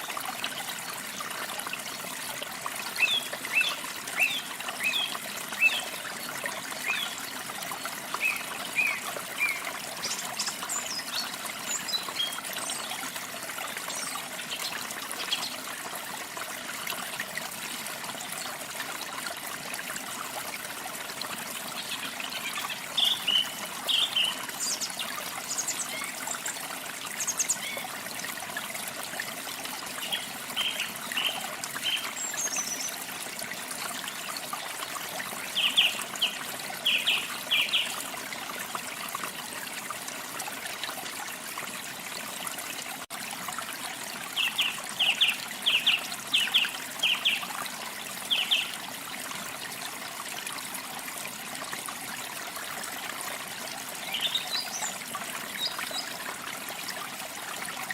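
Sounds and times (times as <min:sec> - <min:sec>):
trickle of running water: 0:00.0 - 0:57.9.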